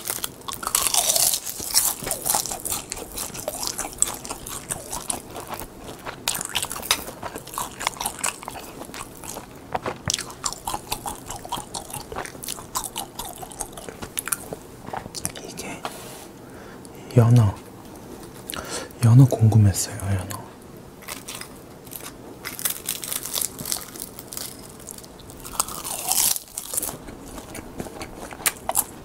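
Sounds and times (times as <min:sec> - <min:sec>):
crunching bite: 0:00.0 - 0:15.5, 0:21.0 - 0:29.0
crackly chewing: 0:00.0 - 0:29.0.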